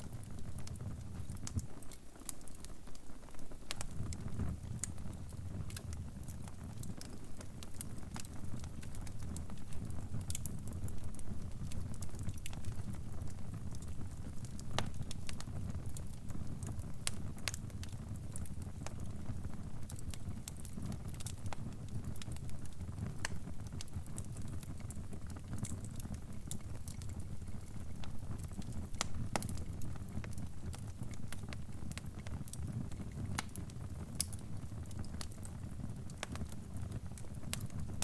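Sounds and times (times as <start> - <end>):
fire popping and snapping: 0.0 - 38.0
fire rumbling: 0.0 - 38.0.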